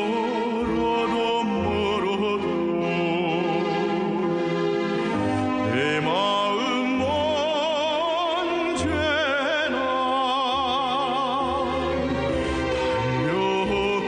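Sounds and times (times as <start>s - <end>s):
person singing with vibrato: 0.0s - 14.0s.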